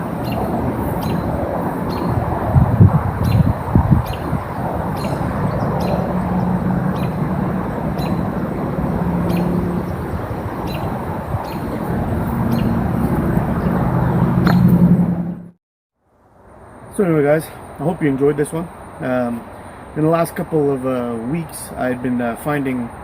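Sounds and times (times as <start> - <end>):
distant traffic rumble: 0.0 - 23.0.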